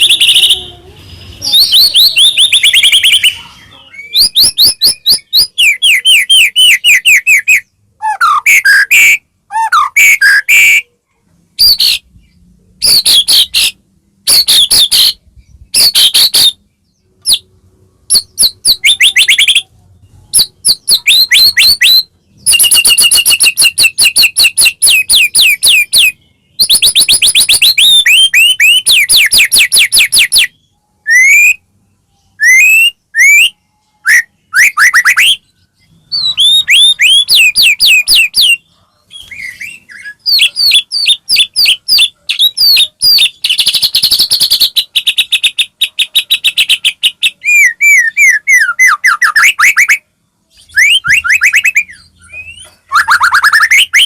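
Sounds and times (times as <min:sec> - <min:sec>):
songbird singing whistled phrases: 0:00.0 - 0:10.9, 0:11.6 - 0:54.0.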